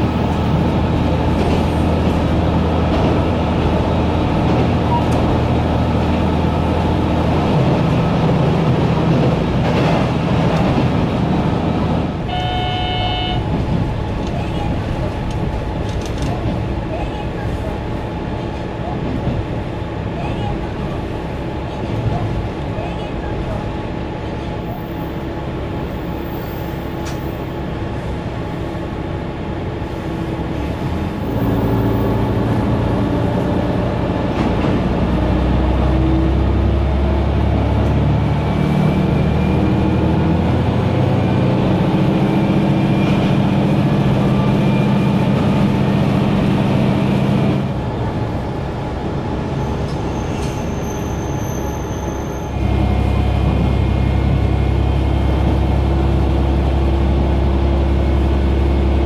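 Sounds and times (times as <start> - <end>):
diesel railcar engine: 0.0 - 59.0
wheel-on-rail rumble: 0.0 - 59.0.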